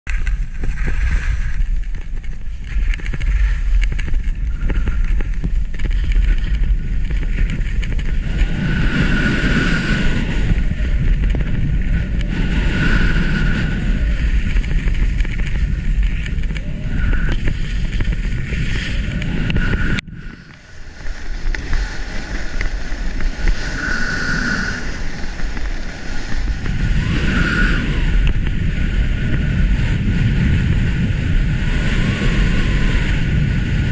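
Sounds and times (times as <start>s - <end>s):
skis scraping over snow: 0.1s - 33.9s
wind buffeting microphone: 0.1s - 33.9s.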